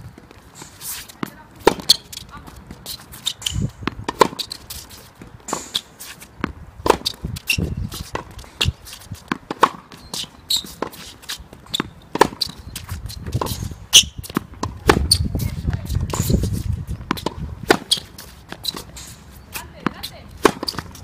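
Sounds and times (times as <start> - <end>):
tennis ball bouncing: 0.2 - 21.0
racket striking tennis ball: 0.5 - 21.0.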